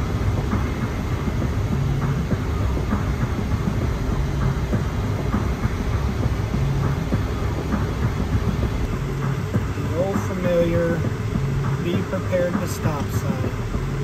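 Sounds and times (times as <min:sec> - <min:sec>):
tyres rumbling on pavement: 0:00.0 - 0:14.0.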